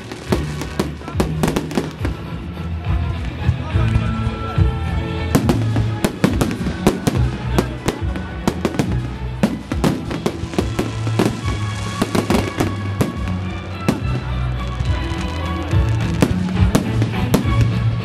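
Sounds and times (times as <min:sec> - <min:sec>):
fireworks bangs and crackling: 0:00.0 - 0:18.0
music with held notes: 0:00.0 - 0:18.0.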